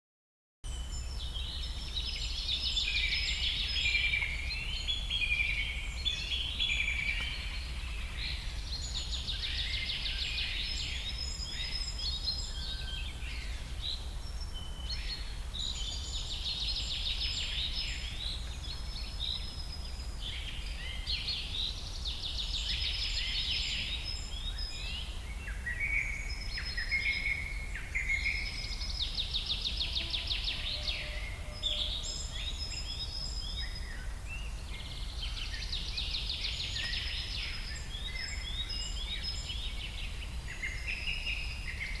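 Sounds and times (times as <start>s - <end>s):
songbird trilling and chirping: 0.7s - 42.0s.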